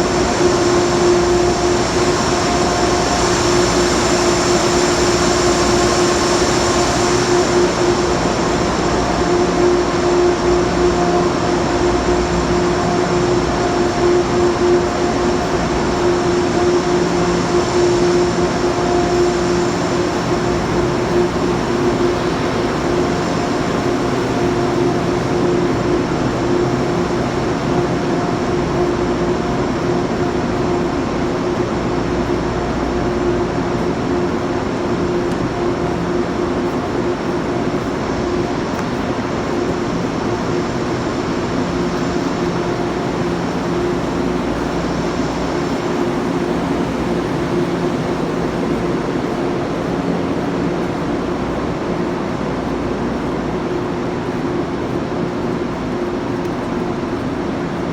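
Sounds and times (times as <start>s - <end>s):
high whine: 0.0s - 57.9s
train equipment hum and whir: 0.0s - 57.9s.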